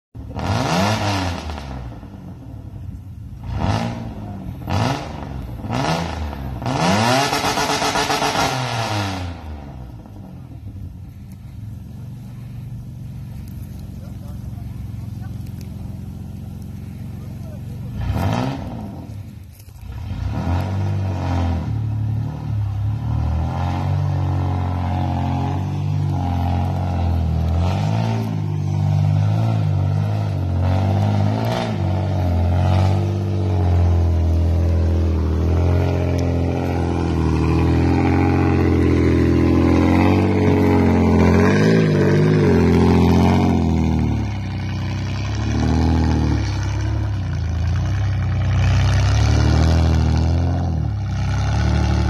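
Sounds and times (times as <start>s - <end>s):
buggy engine revving: 0.2s - 52.0s.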